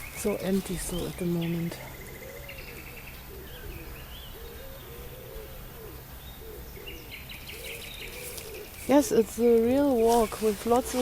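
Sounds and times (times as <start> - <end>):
songbirds chirping faintly: 0.0 - 11.0
pigeon cooing: 0.4 - 11.0.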